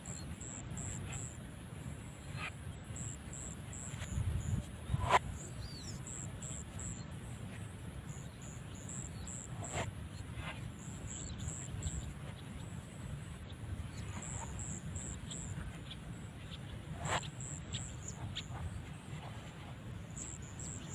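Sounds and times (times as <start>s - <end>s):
insects chirping: 0.0s - 20.9s.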